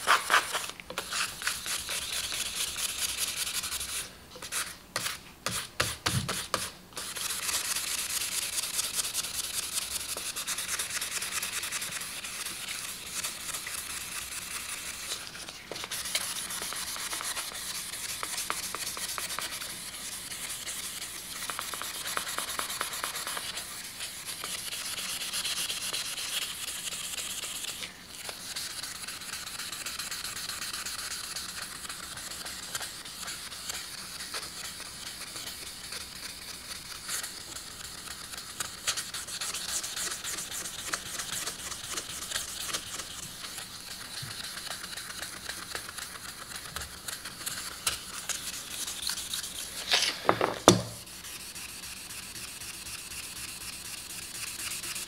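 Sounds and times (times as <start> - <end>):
sandpaper rubbing on knife blade: 0.0 - 55.0.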